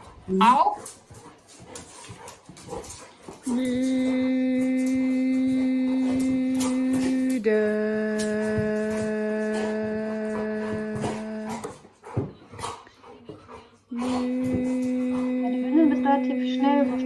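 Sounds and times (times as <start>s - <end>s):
dogs scuffling while playing: 0.0s - 15.4s.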